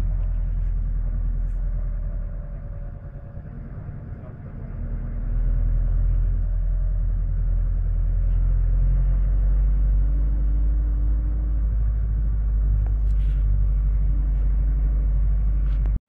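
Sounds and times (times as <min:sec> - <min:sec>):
coach engine and road rumble: 0:00.0 - 0:16.0.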